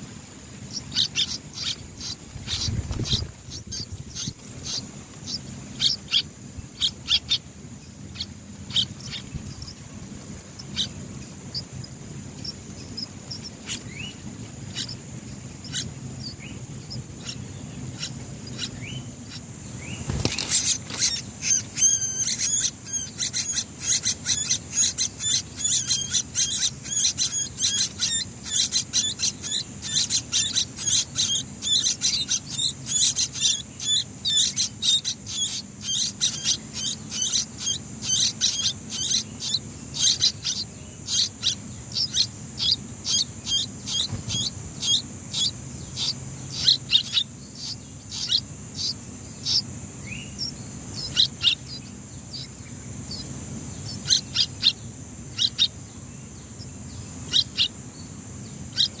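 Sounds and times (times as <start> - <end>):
nestling birds chirping: 0.0 - 59.0.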